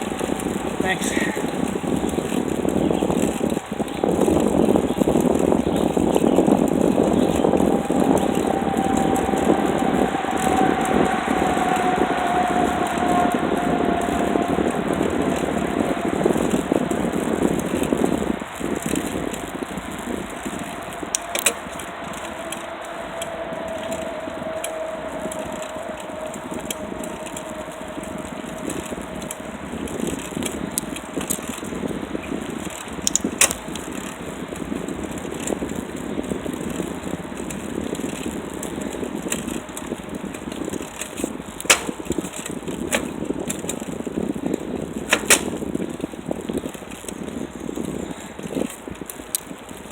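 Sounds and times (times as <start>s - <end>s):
bicycle rattles over bumps: 0.0s - 49.9s
bicycle tyre and air noise: 0.0s - 49.9s.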